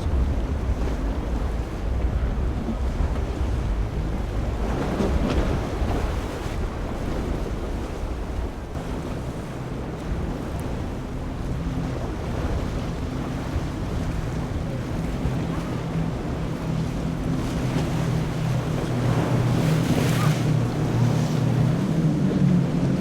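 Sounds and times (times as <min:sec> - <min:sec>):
boat engine droning: 0:00.0 - 0:23.0
rush of water: 0:00.0 - 0:23.0
waves washing: 0:00.0 - 0:23.0
wind buffeting microphone: 0:00.0 - 0:23.0.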